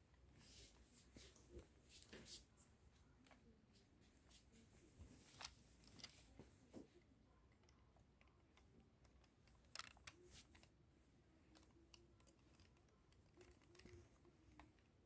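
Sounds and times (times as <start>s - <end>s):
faint sharp clicks and taps: 0.1s - 15.0s.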